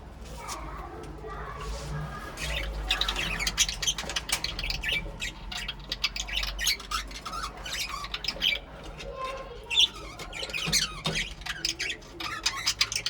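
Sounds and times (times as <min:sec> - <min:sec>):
budgerigars chirping and squawking: 0:02.1 - 0:13.0.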